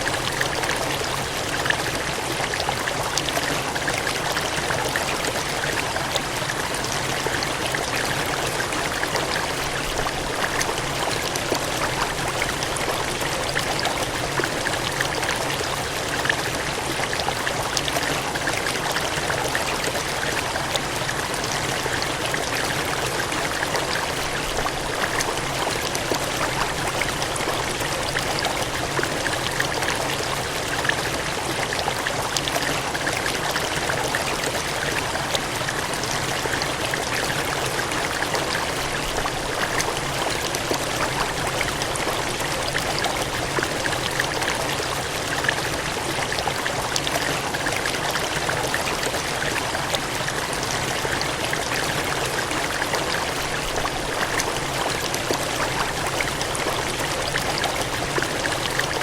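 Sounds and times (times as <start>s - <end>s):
water gushing: 0.0s - 59.0s.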